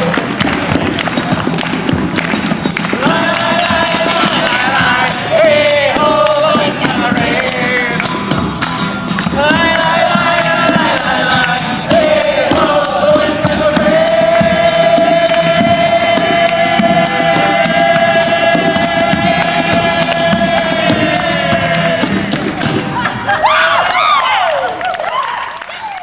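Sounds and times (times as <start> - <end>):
tambourine jingling: 0.0 - 24.3.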